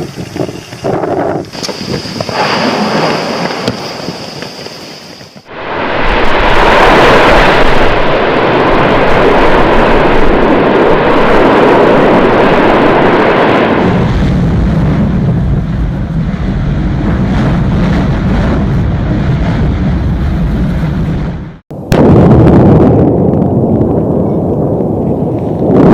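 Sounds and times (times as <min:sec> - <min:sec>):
volcanic eruption roar: 0:00.0 - 0:25.9.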